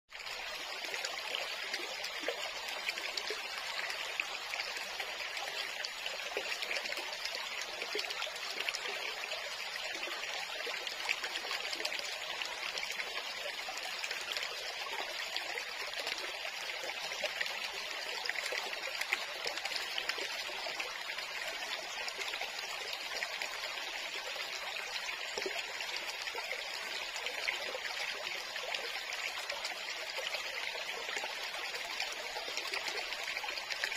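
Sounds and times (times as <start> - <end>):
stream trickling over rocks: 0.1 - 33.9.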